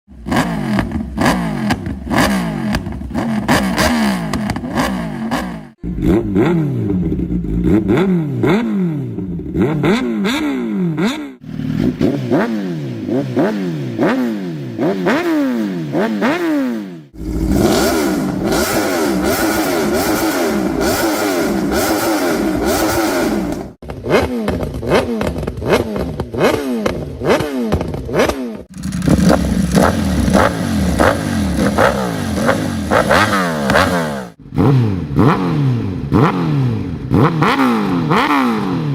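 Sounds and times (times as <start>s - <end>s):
motorcycle engine revving: 0.1s - 38.9s.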